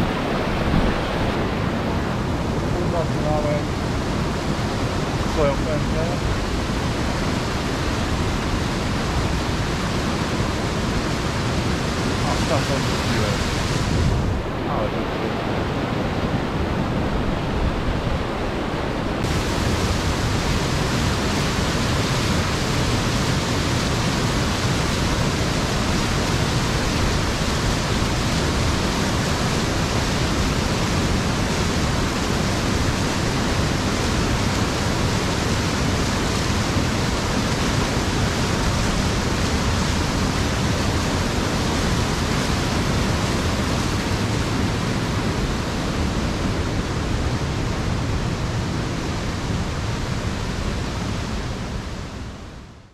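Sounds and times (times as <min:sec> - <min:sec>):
waterfall rushing over rocks: 0:00.0 - 0:52.7.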